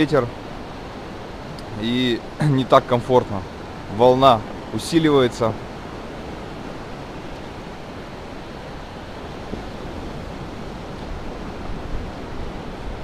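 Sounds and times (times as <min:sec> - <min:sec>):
waves washing up a beach: 0:00.0 - 0:13.0.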